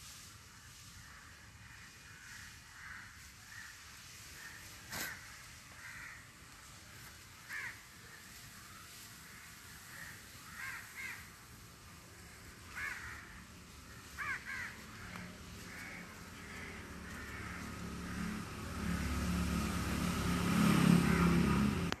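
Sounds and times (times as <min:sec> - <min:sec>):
low vehicle engine rumble: 0:00.0 - 0:22.0.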